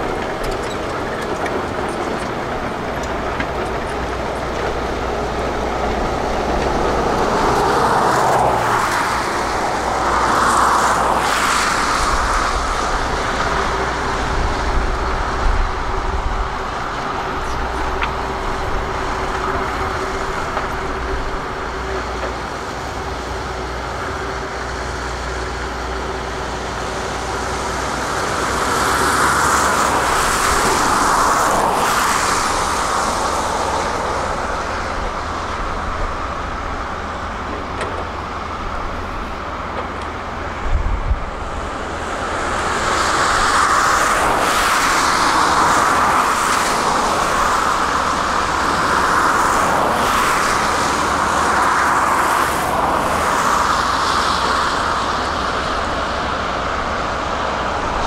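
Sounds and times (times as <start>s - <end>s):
construction machinery diesel engines: 0.0s - 58.0s.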